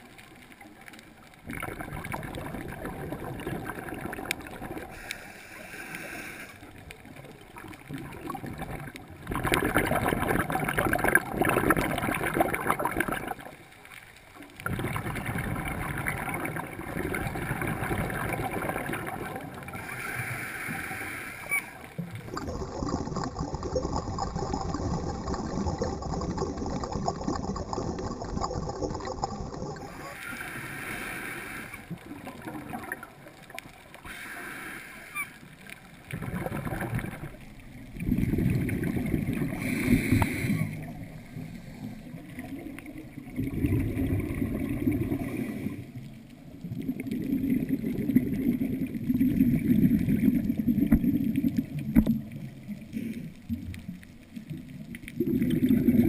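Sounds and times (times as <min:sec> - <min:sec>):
underwater bubbles gurgling: 0:00.0 - 0:56.0.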